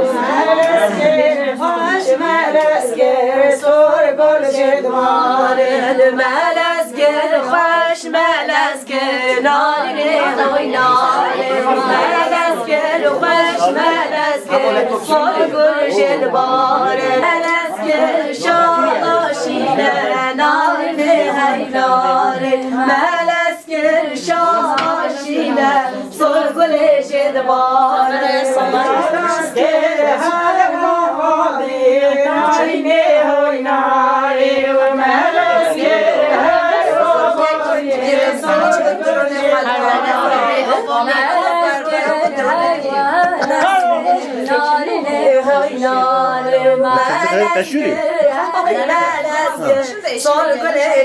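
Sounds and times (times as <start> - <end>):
women singing unaccompanied: 0.0 - 51.0.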